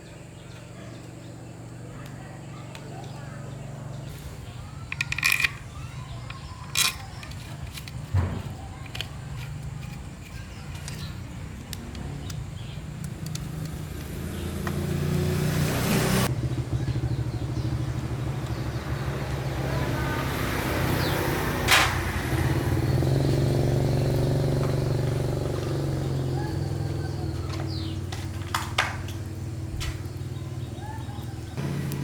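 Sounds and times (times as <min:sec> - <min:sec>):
small petrol engine running: 0:00.0 - 0:32.0.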